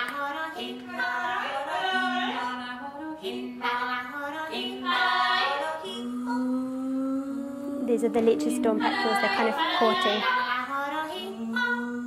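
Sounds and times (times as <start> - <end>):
women singing over loudspeakers: 0.0 - 6.0, 7.7 - 12.0.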